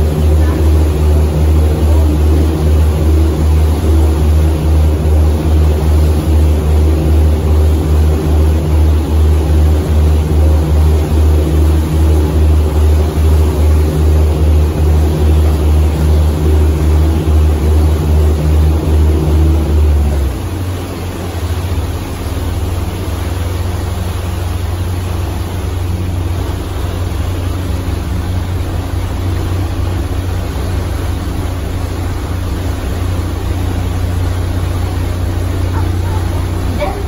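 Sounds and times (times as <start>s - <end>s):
boat engine throbbing: 0.0s - 37.0s.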